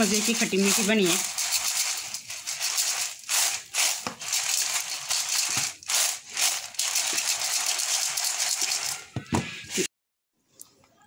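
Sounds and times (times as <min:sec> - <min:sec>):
fried lentils rattling on a plate: 0:00.0 - 0:09.9.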